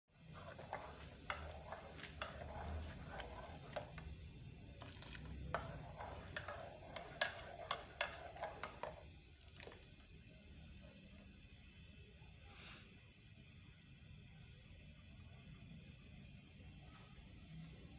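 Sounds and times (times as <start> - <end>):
low steady hum: 0.1 - 17.9.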